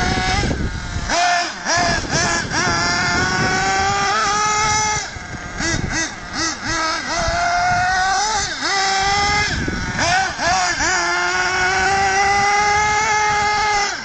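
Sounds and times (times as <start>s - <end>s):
high-pitched model engine revving: 0.0s - 14.0s.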